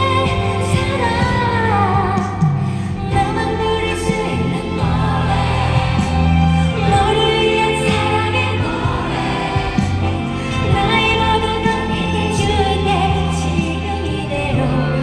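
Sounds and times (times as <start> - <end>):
choir-like vocals: 0.0 - 15.0
live pop band: 0.0 - 15.0
woman singing: 0.0 - 15.0.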